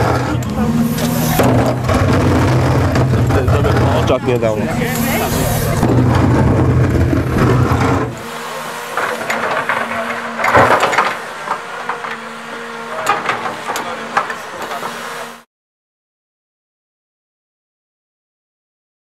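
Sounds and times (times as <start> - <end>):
gravel crunching under bucket: 0.0 - 15.3
excavator diesel engine: 0.0 - 15.5.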